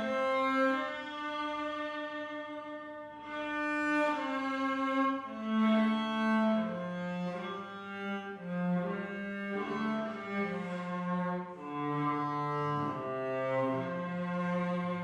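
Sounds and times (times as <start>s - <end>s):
cello playing slow hymn melody: 0.0s - 15.0s.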